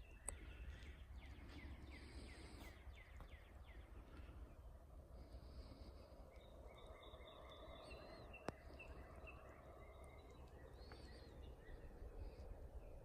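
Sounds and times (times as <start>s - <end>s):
faint birds chirping: 0.0s - 13.0s
low steady rumble: 0.0s - 13.0s.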